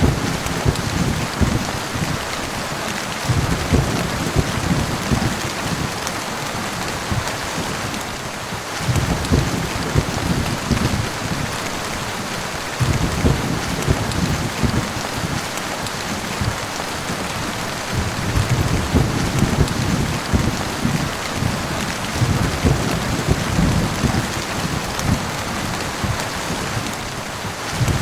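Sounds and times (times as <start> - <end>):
thunder rumbling: 0.0 - 12.1, 12.8 - 28.0
heavy rain falling: 0.0 - 28.0.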